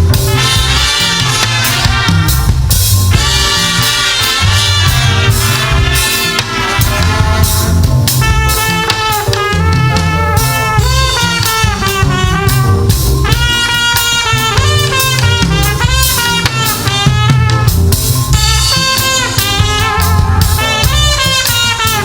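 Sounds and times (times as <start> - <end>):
drum kit steady beat: 0.0 - 22.0
melody of held notes: 0.0 - 22.0.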